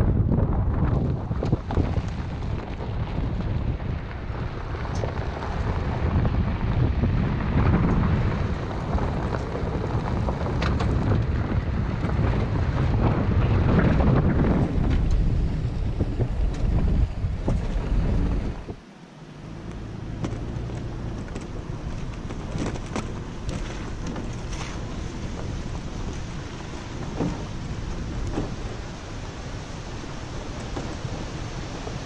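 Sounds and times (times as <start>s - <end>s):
wind on microphone: 0.0s - 18.8s, 19.4s - 32.0s
road noise: 0.0s - 32.0s
vehicle driving: 0.0s - 32.0s
small clicks on dirt road: 0.3s - 18.8s, 19.6s - 32.0s.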